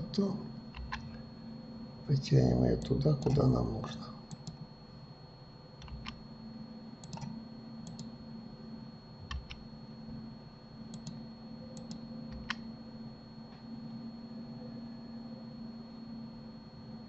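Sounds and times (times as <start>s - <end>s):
computer hum: 0.0s - 17.0s.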